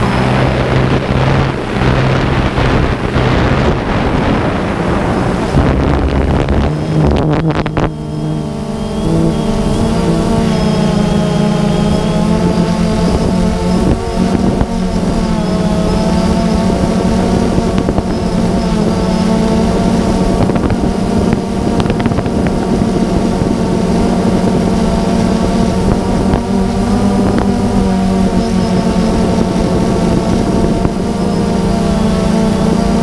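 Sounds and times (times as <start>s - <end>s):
drone propellers buzzing: 0.0s - 33.0s
wind rush: 0.0s - 33.0s.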